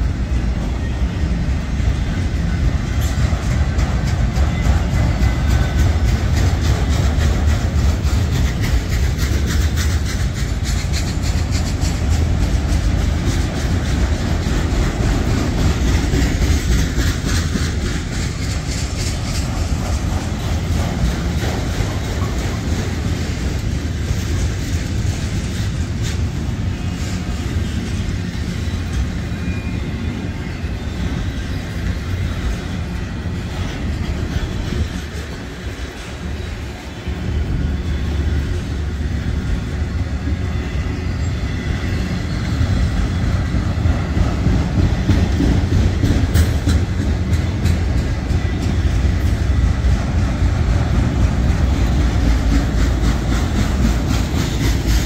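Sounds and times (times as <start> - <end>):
freight train rumble: 0.0 - 55.0
wheels clacking over rail joints: 0.0 - 55.0.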